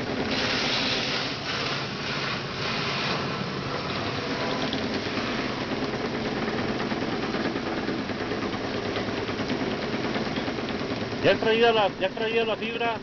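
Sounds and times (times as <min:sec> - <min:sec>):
machine motor droning: 0:00.0 - 0:13.0.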